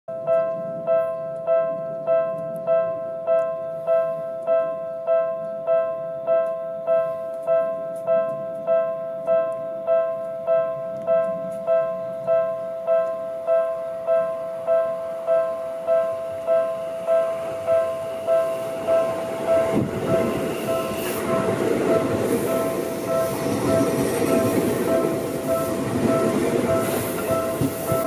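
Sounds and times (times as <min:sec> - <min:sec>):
level-crossing alarm ringing: 0:00.1 - 0:28.0.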